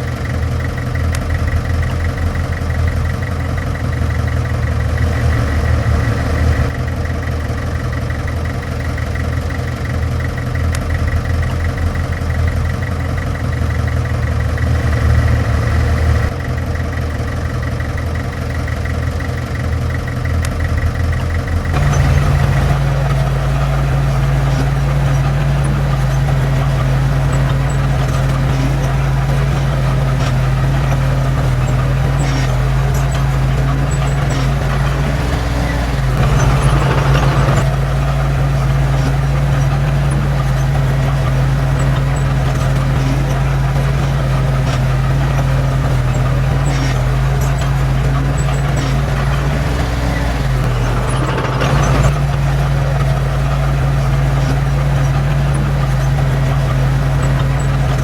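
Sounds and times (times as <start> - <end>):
heavy diesel machine engine running: 0.0 - 58.0.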